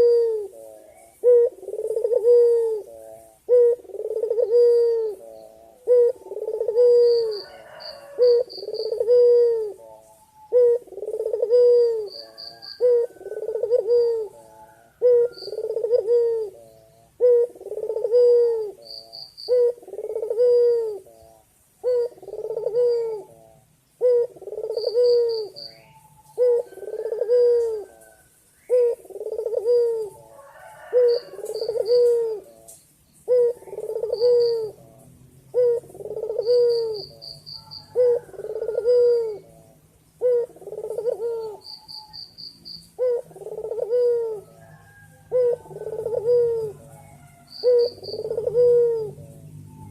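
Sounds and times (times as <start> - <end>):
dove cooing: 0.0 - 49.9
small birds chirping: 0.0 - 49.9.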